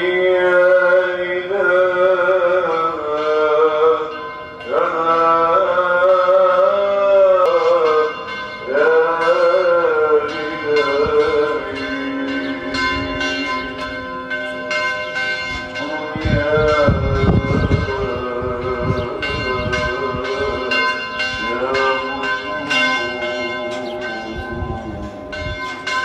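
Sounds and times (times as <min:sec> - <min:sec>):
person singing long wavering notes: 0:00.0 - 0:14.8, 0:15.5 - 0:25.9
church bells ringing: 0:00.0 - 0:26.0.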